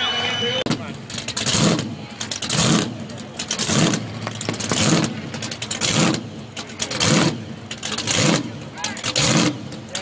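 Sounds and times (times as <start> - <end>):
car engine revving: 0.8 - 10.0.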